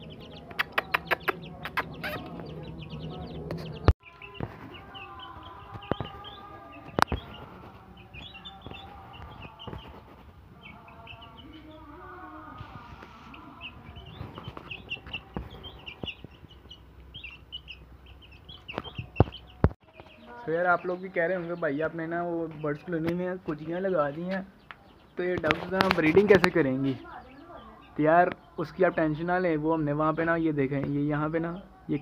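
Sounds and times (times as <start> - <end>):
chicks peeping: 0.0 - 32.0.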